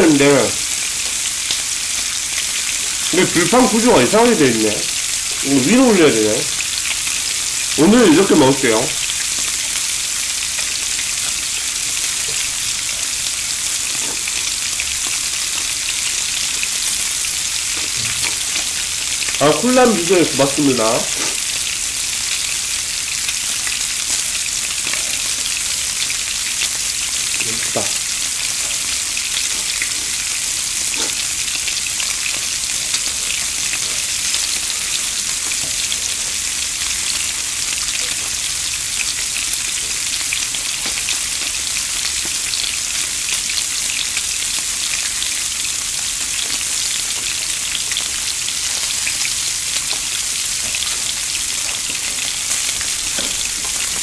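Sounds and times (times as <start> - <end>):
pork sizzling on a grill: 0.0 - 54.0.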